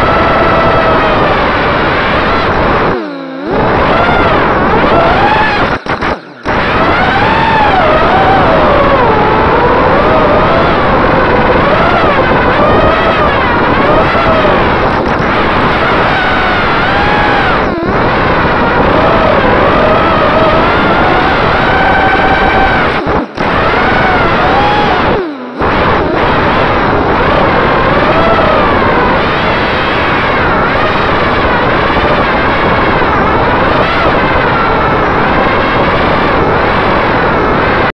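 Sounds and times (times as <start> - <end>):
drone motors whining: 0.0 - 37.9
wind rushing on microphone: 0.0 - 37.9.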